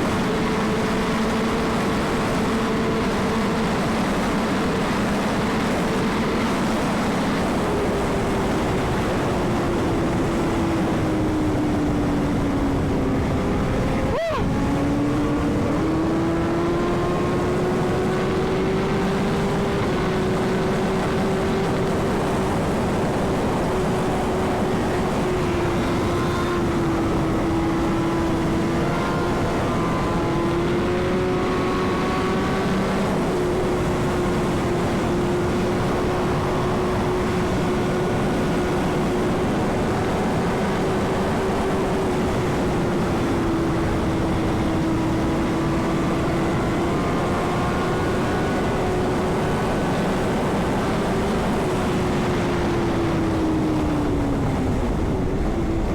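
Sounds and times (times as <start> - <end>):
motorcycle engine cruising: 0.0 - 55.9
wind noise: 0.0 - 55.9.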